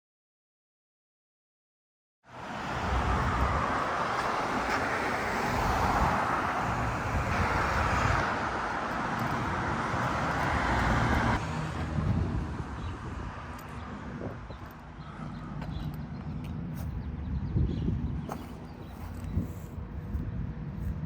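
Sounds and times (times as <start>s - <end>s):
passing cars: 2.3s - 21.0s.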